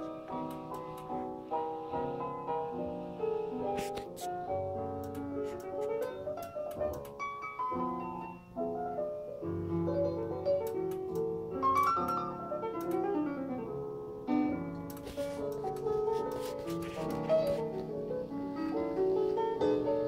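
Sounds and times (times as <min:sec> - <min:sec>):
piano music from tape: 0:00.0 - 0:20.0.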